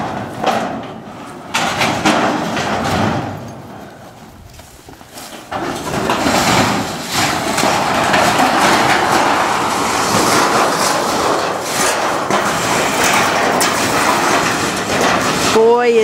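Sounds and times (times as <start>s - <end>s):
wooden panel scraping and rattling: 0.0s - 4.1s, 5.2s - 16.0s.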